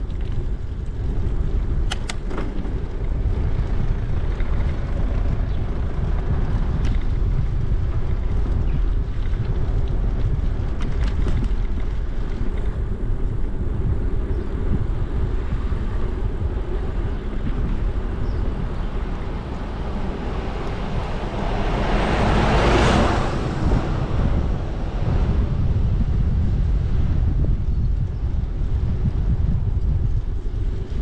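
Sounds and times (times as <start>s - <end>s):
wind buffeting microphone: 0.0s - 31.0s
passing vehicle: 2.4s - 29.0s.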